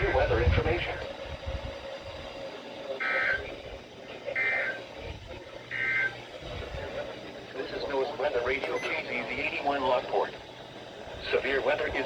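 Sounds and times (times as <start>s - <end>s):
buzzy data bursts: 0.0s - 12.0s.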